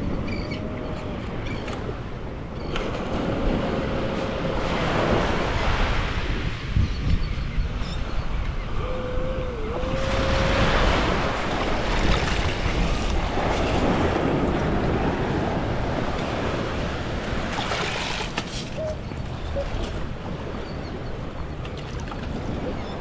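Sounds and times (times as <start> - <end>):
surf washing in: 0.0 - 6.8, 8.6 - 22.8
wind buffeting microphone: 0.0 - 23.0.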